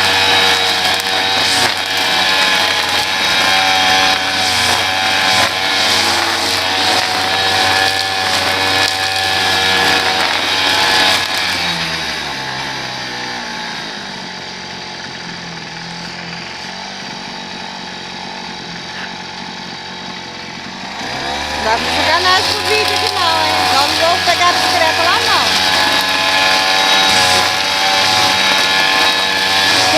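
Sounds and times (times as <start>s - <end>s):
small gasoline engine running: 0.0s - 29.9s.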